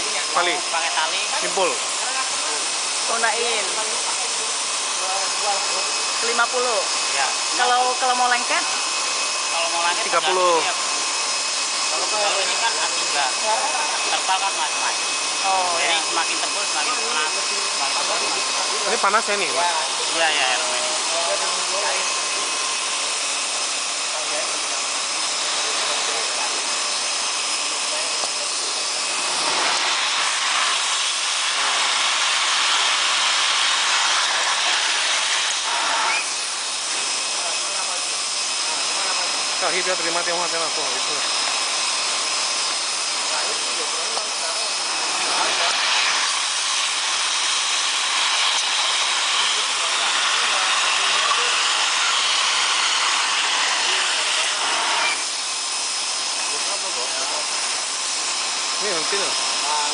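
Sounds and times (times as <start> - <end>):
hot air welder hissing: 0.0 - 59.9.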